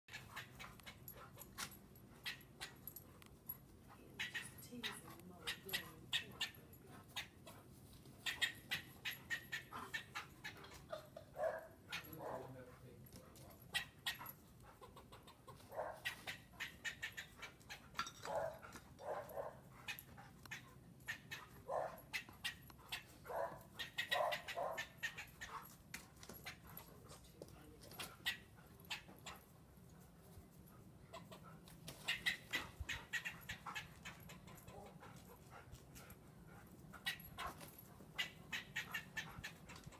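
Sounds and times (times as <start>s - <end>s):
dog whining and yelping: 0.1s - 12.4s, 13.4s - 27.2s, 27.9s - 39.9s.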